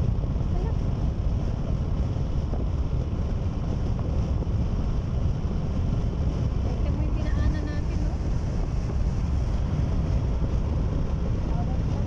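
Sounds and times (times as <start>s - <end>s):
car road and wind noise: 0.0s - 12.0s
wind buffeting microphone: 0.0s - 12.0s.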